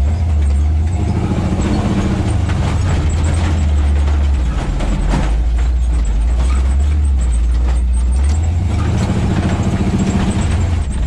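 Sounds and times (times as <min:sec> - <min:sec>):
knocks and rattles: 0:00.0 - 0:11.0
truck engine droning: 0:00.0 - 0:11.0.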